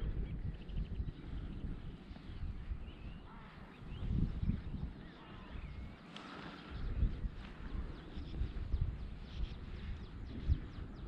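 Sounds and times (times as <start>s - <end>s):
faint bird calls: 0.0s - 11.0s
wind buffeting microphone: 0.0s - 11.0s.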